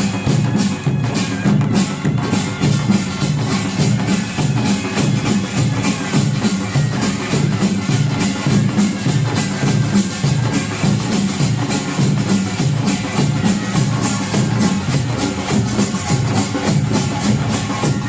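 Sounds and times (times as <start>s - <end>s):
drums beating: 0.0s - 18.0s.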